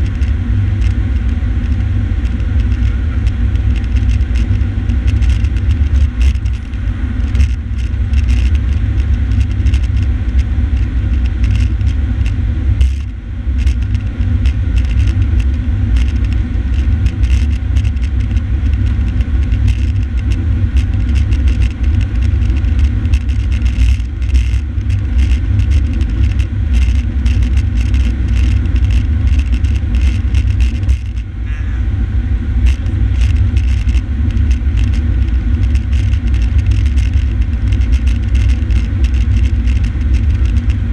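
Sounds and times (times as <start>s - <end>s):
small ticks and rattles: 0.0s - 31.4s, 32.6s - 40.9s.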